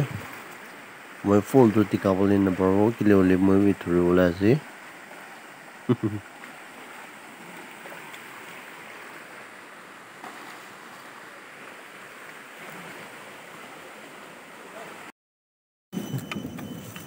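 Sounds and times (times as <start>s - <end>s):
stream flowing over stones: 0.0s - 15.1s.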